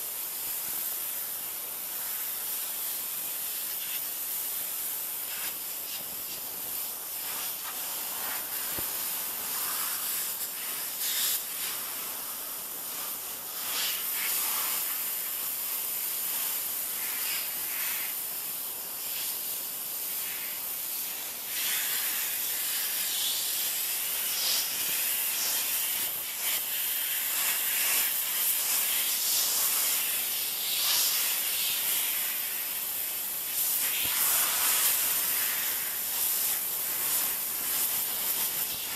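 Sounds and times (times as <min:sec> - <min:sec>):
pressure washer spray hissing: 0:00.1 - 0:38.9.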